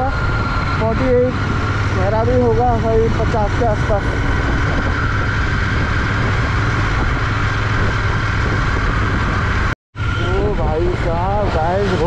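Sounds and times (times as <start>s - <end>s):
high whine: 0.0s - 12.0s
motorcycle engine and road drone: 0.0s - 12.0s
wind noise: 0.0s - 12.0s.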